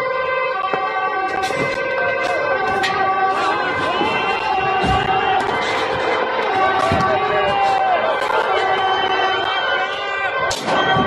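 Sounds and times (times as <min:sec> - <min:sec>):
police siren: 0:00.0 - 0:11.0
people shouting: 0:00.6 - 0:11.0.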